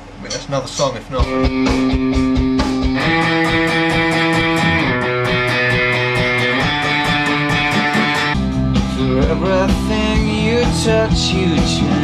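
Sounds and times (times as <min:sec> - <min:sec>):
band music with electric guitar: 0:01.2 - 0:12.0.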